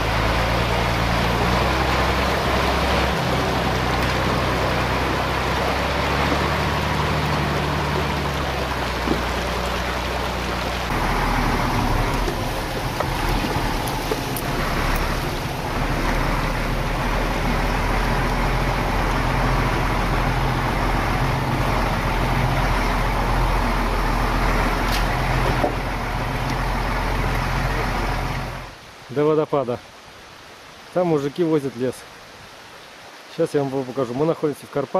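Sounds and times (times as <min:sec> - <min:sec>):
truck diesel engine running: 0:00.0 - 0:28.8
rough road noise: 0:00.0 - 0:34.9
rushing water: 0:00.0 - 0:34.9.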